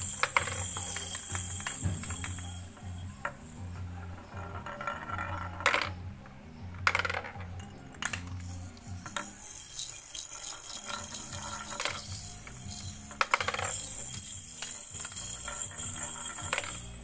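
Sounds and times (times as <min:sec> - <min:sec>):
marbles clicking and rolling: 0:00.0 - 0:06.0, 0:06.8 - 0:17.0.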